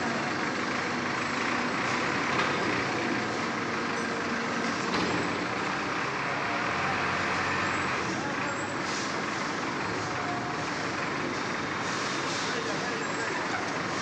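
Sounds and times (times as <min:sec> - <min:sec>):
city street noise: 0:00.0 - 0:14.0
truck engine running: 0:00.0 - 0:14.0.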